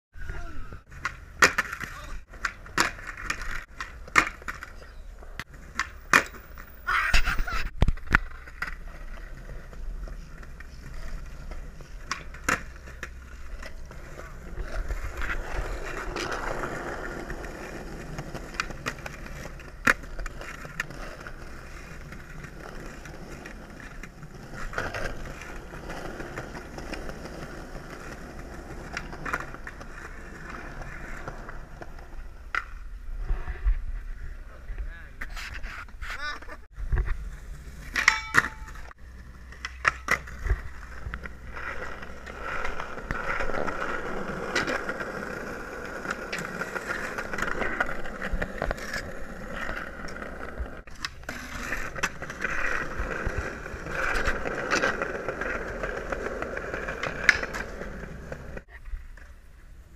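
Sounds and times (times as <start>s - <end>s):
skateboard wheels rolling: 0.2s - 59.9s
skateboard clacks: 0.4s - 32.8s, 37.9s - 59.4s.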